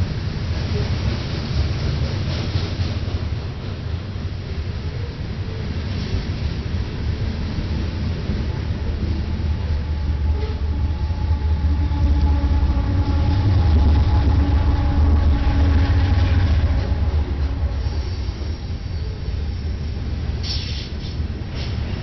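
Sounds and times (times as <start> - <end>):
freight train passing: 0.0 - 22.0.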